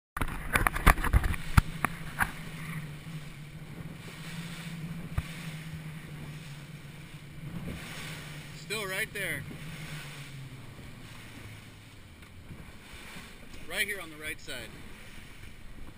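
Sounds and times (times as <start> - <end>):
wind on microphone: 0.2 - 13.7
boat engine hum: 0.2 - 15.9
rushing water: 0.2 - 15.9.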